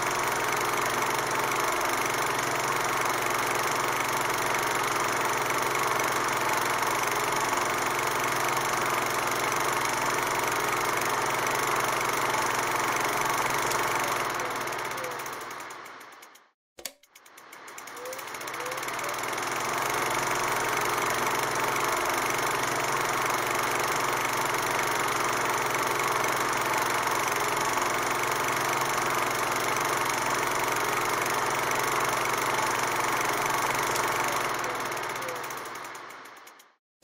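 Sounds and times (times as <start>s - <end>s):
film projector clattering: 0.0s - 36.8s.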